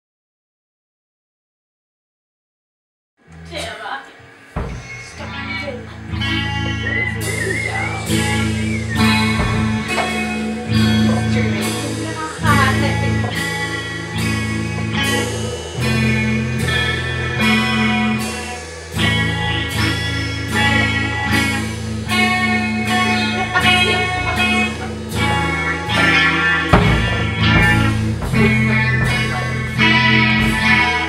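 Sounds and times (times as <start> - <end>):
electric guitar chords: 3.2 - 31.0
drum beat with cymbals: 3.5 - 31.0.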